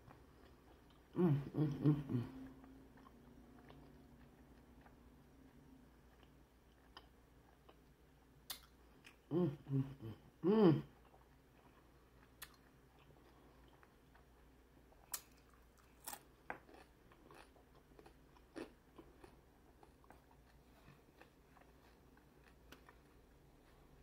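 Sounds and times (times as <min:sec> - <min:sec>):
chewing crunchy chips: 0:02.4 - 0:09.3, 0:11.0 - 0:24.0.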